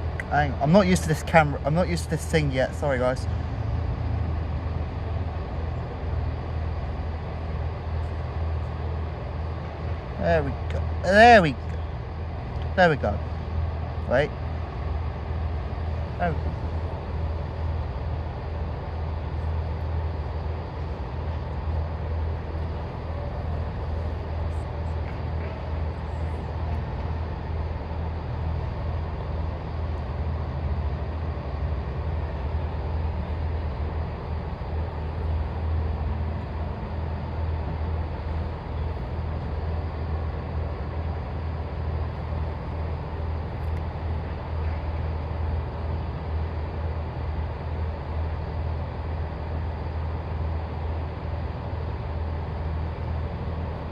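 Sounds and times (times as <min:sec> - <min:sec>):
diesel train engines idling: 0:00.0 - 0:53.9.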